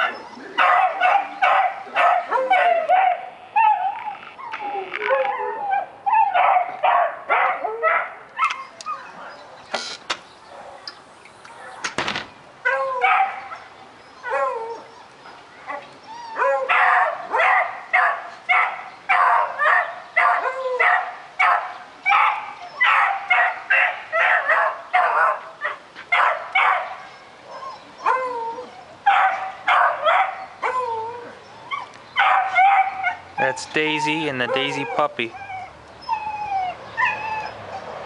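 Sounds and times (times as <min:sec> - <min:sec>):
puppy barking and yelping: 0:00.0 - 0:09.4, 0:12.6 - 0:38.0.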